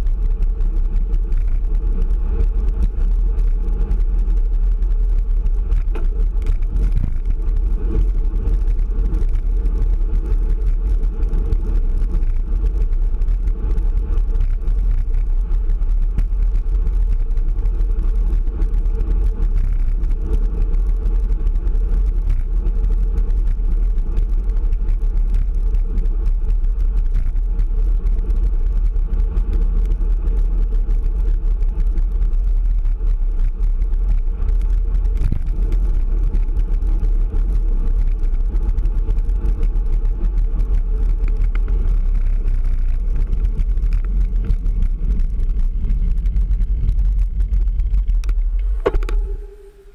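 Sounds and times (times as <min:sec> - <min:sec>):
tyre and road noise: 0:00.0 - 0:49.9.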